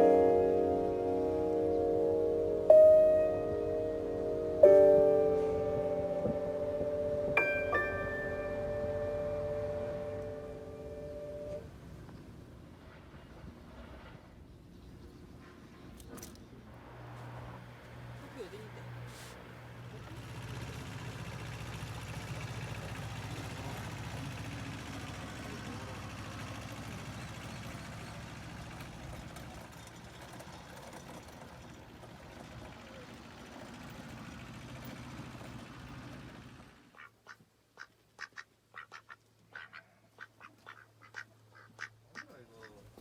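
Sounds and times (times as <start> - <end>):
vehicle rumble with hum: 0.0 - 36.9.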